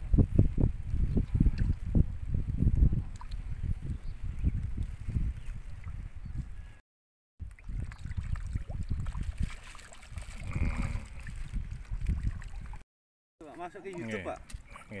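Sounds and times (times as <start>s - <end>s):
wind buffeting microphone: 0.0s - 6.8s, 7.5s - 12.8s.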